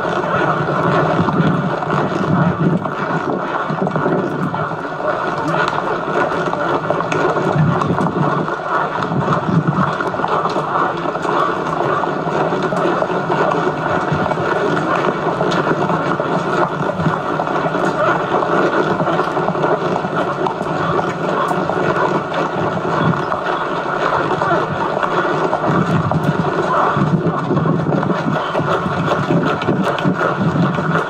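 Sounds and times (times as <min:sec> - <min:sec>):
muffled wind on microphone: 0:00.0 - 0:31.0.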